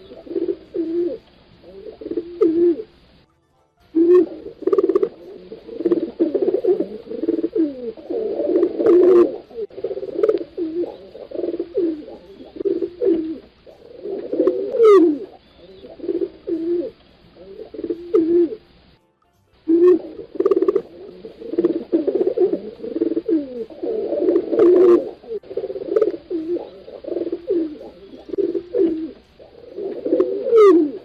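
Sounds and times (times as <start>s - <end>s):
pigeons cooing: 0.0s - 3.1s, 4.0s - 18.8s, 19.7s - 31.0s
high chirp: 0.0s - 31.0s.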